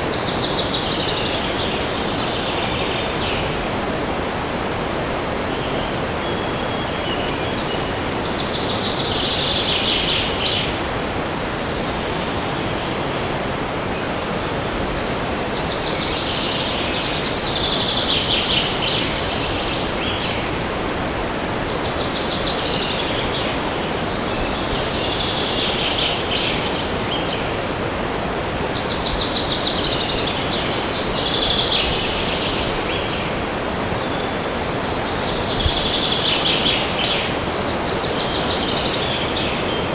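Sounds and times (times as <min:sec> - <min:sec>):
wind rushing through trees: 0:00.0 - 0:39.9.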